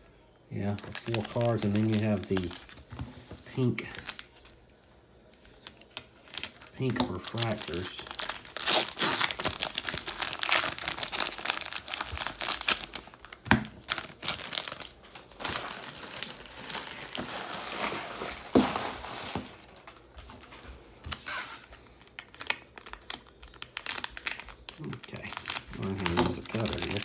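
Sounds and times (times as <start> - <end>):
foil packs crinkling: 0.6 - 27.0
cellophane wrap tearing: 0.8 - 2.8, 5.4 - 19.9, 21.1 - 27.0.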